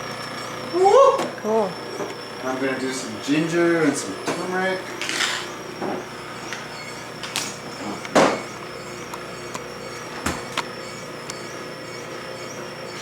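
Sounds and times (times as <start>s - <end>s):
juicer running with whine: 0.0s - 13.0s.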